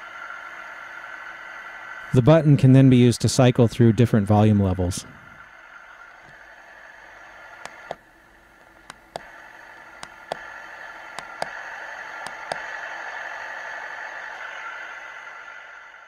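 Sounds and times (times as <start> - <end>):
hissing hum from small speaker: 0.0 - 16.0.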